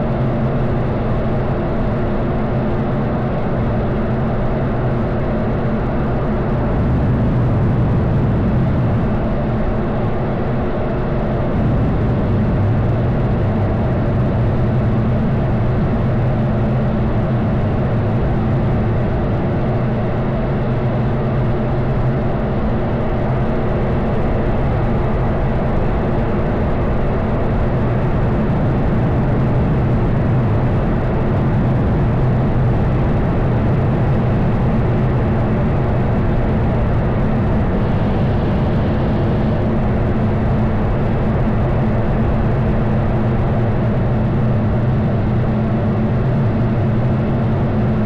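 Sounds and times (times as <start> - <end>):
aircraft engines droning: 0.0 - 48.0.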